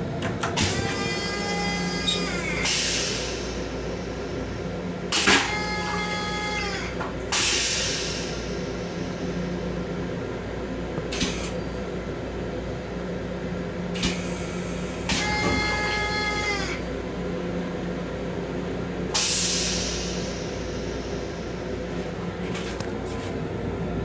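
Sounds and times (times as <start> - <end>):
electric railcar rumble and hum: 0.0 - 24.0.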